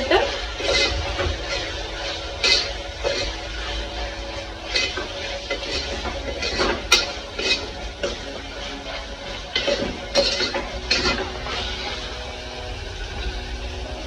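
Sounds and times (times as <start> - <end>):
food frying in oil: 0.0 - 14.0
metal spoon scraping pot: 0.2 - 12.1.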